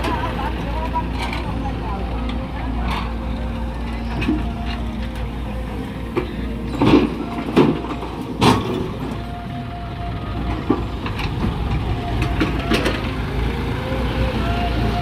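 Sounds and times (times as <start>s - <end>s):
diesel engines running: 0.0s - 15.0s.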